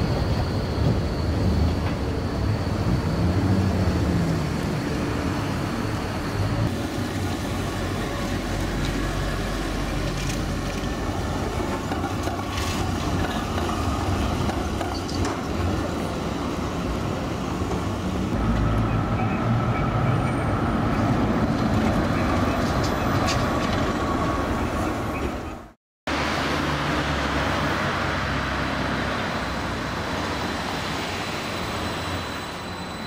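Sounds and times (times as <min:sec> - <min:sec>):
traffic noise: 0:00.0 - 0:33.0
trolleybuses driving past: 0:00.0 - 0:33.0.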